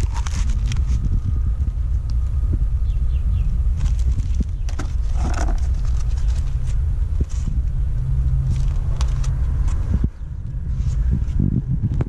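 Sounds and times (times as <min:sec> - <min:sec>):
low hum: 0:00.0 - 0:12.0
low rumble: 0:00.0 - 0:12.0.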